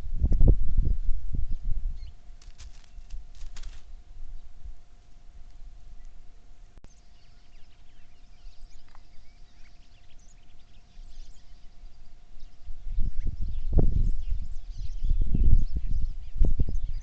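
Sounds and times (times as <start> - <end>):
faint steady hum: 0.0 - 17.0
small birds chirping: 1.5 - 4.6, 5.4 - 17.0.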